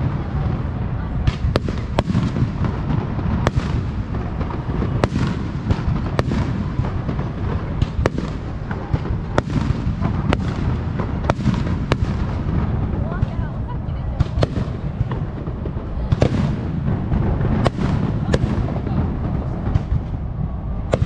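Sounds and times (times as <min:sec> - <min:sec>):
fireworks booming: 0:00.0 - 0:21.0
sharp fireworks cracks: 0:00.0 - 0:21.0.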